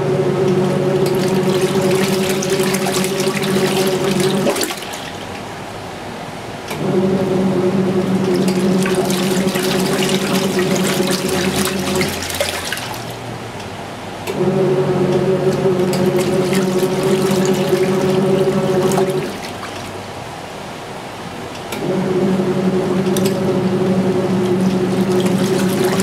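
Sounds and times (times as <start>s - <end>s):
washing machine motor humming: 0.0s - 26.0s
water churning and sloshing: 0.0s - 26.0s.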